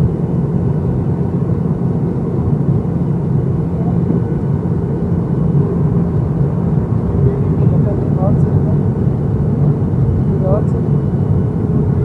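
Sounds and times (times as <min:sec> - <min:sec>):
airplane engines rumbling in cabin: 0:00.0 - 0:12.0.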